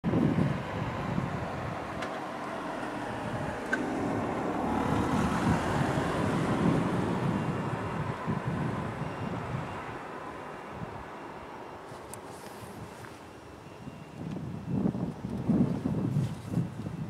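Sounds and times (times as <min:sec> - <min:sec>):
distant train rumble: 0:00.0 - 0:16.1.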